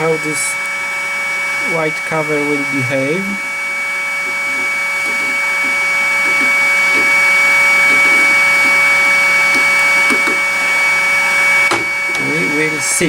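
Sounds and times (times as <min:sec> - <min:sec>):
hot air gun blowing: 0:00.0 - 0:13.0.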